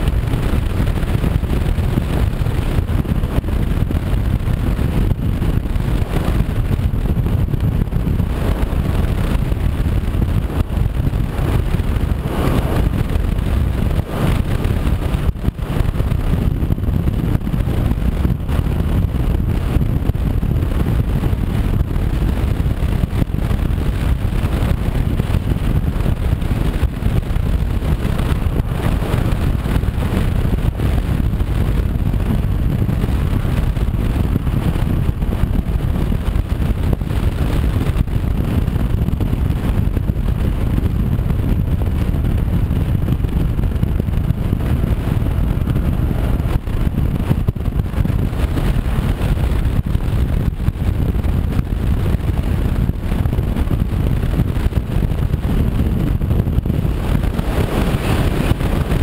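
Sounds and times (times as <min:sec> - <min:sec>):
motorcycle engine running: 0:00.0 - 0:59.0
road noise: 0:00.0 - 0:59.0
wind rumble on microphone: 0:00.0 - 0:59.0.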